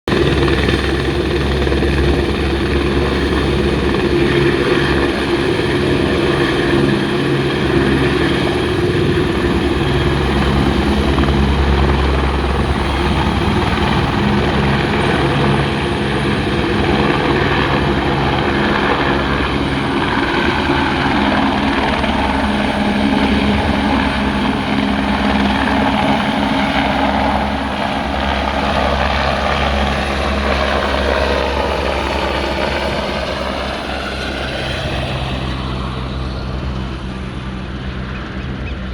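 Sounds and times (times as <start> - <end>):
helicopter engine noise: 0.1 - 38.9
helicopter rotor beating: 0.1 - 38.9.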